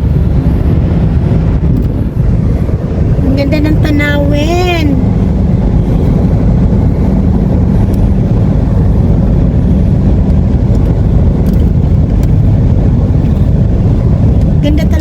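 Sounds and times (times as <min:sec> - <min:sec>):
car road noise from inside cabin: 0:00.0 - 0:15.0.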